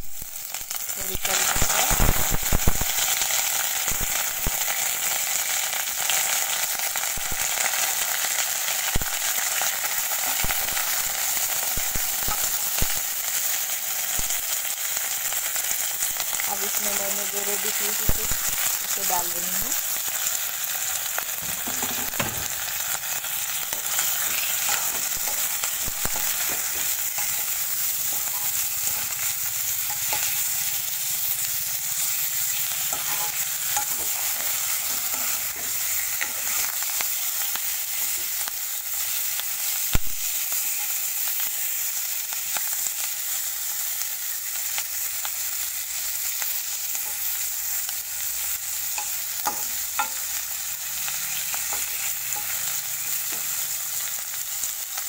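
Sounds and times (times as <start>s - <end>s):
fish frying in oil: 0.0s - 55.0s.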